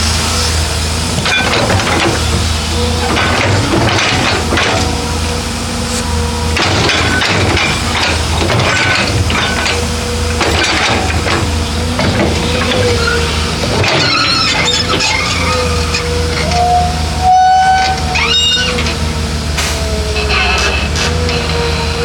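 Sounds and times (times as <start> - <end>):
diesel engine running: 0.0 - 22.0
hydraulic whine: 0.0 - 22.0
metal clanks and knocks: 1.0 - 22.0.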